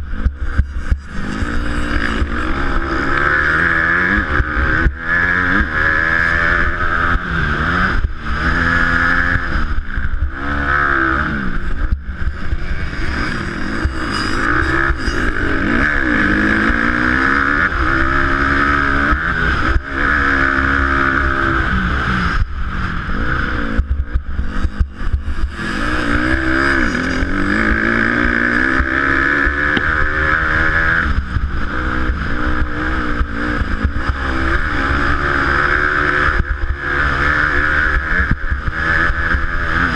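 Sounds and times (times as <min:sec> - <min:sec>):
dirt bike engine revving: 0:00.0 - 0:39.9
track noise: 0:00.0 - 0:39.9.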